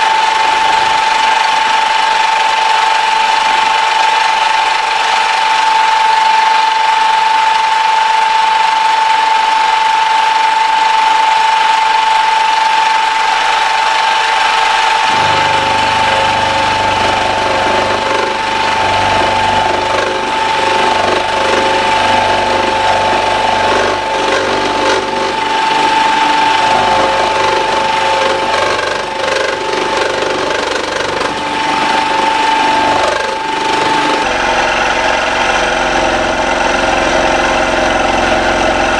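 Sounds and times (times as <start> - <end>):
end mill cutting metal: 0.0 - 38.9
milling machine spindle whine: 0.0 - 38.9.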